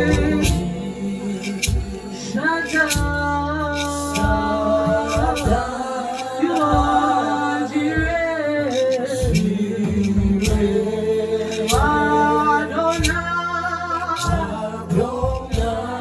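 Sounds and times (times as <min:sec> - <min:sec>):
drum strokes: 0:00.0 - 0:16.0
worship singing with band: 0:00.0 - 0:16.0.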